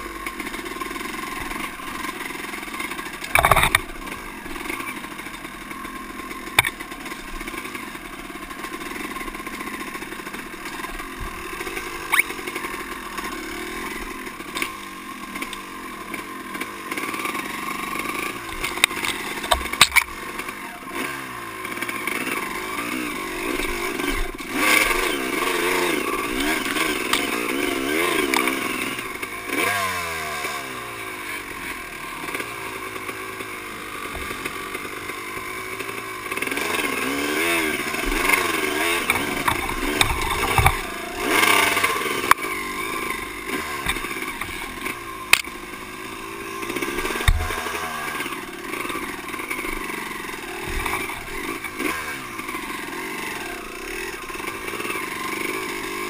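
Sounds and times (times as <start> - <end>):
dirt bike engine revving: 0.0 - 56.0
branches brushing against bike: 0.3 - 28.6, 33.2 - 56.0.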